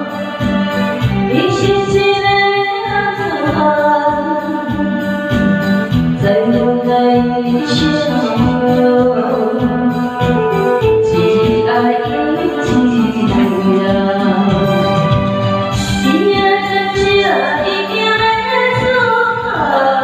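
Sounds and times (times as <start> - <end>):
person singing: 0.0 - 5.4, 6.2 - 20.0
band accompaniment with steady beat: 0.0 - 19.8.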